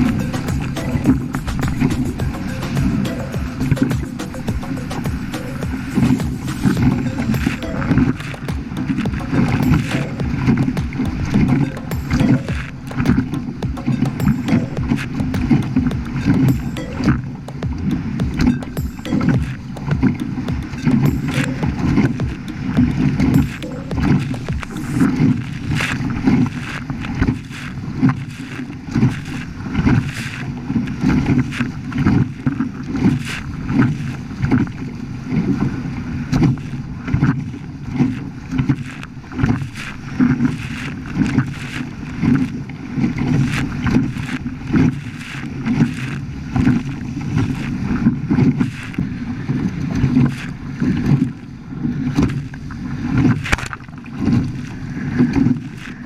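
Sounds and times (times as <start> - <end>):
water splashing against hulls: 0.0 - 56.0
wind buffeting microphone: 0.0 - 56.0.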